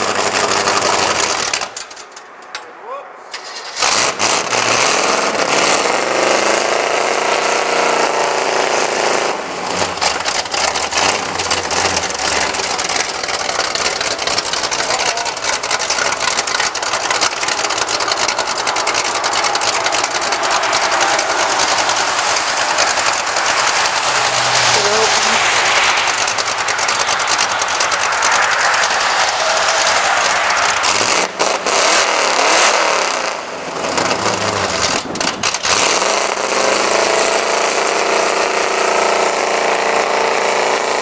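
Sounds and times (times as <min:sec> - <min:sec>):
truck engine revving rough: 0:00.0 - 0:01.8, 0:03.4 - 0:41.0.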